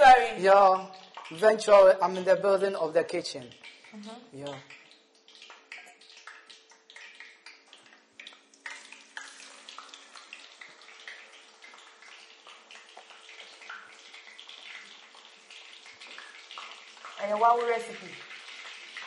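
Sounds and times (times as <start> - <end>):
food frying in hot oil: 0.0 - 19.0.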